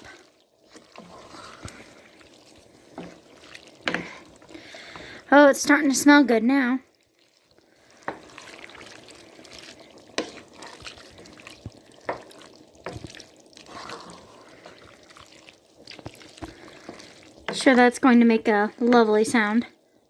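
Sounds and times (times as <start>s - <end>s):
liquid sloshing in a pot: 0.0s - 19.2s.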